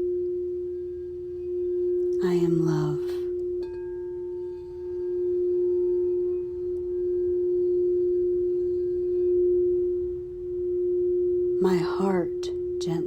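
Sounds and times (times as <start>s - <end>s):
singing bowl ringing tone: 0.0s - 13.0s.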